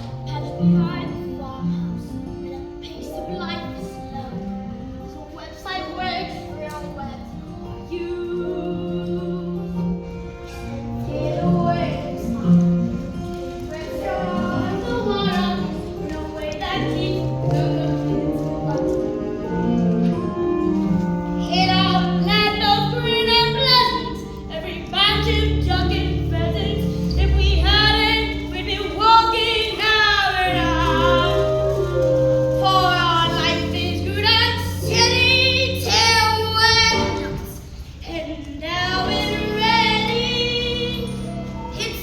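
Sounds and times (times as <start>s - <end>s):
instrumental accompaniment: 0.0s - 42.0s.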